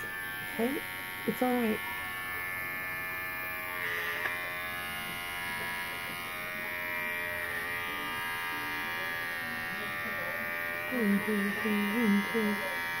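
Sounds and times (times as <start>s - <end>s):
pet clipper buzzing: 0.0s - 13.0s.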